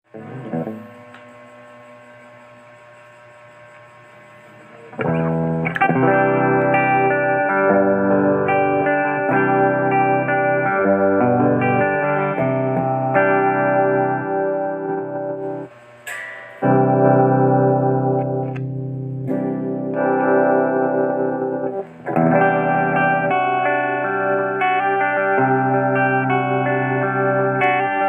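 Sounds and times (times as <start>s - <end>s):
electric guitar playing chords: 0.0s - 1.9s, 4.9s - 28.0s
amp hum: 0.0s - 28.0s.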